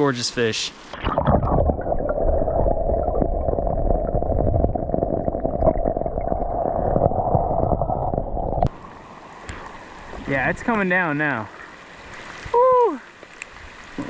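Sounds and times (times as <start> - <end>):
underwater stream rushing: 0.7 - 14.0.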